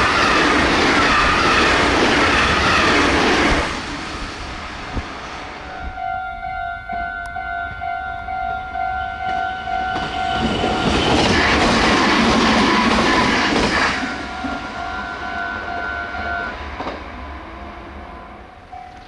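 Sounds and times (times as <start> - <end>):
train passing at high speed: 0.0 - 19.0.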